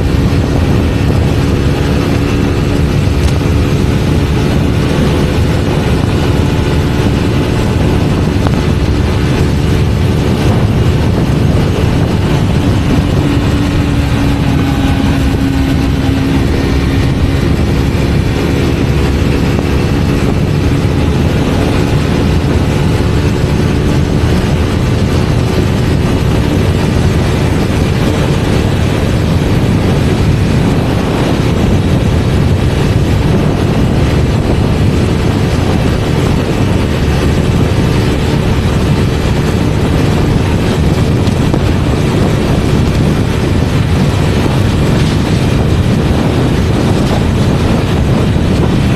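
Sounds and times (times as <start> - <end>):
low rushing rumble: 0.0 - 48.9
motorcycle engine at high speed: 0.0 - 48.9.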